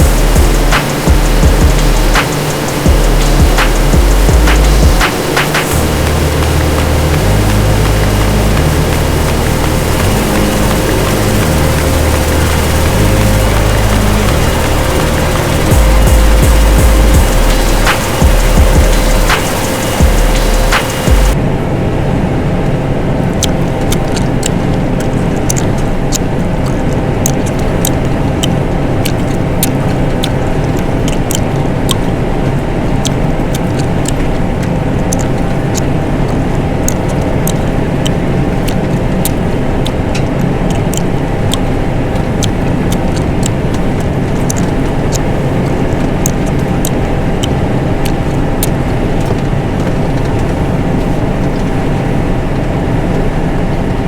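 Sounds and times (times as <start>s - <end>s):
sharp clicks and ticks: 0.0s - 21.4s, 23.4s - 32.4s, 33.0s - 51.8s
combine engine and machinery drone: 0.0s - 54.0s.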